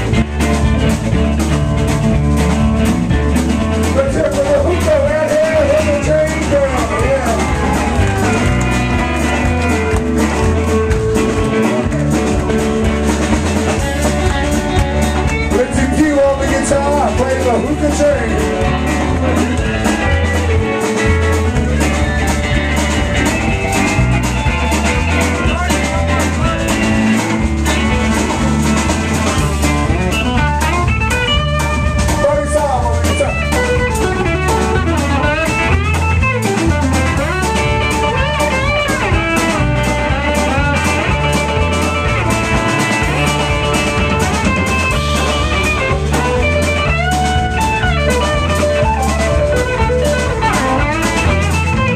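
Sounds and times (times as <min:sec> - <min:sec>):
bass line: 0:00.0 - 0:51.9
drum kit: 0:00.0 - 0:51.9
electric guitar lead: 0:00.0 - 0:51.9.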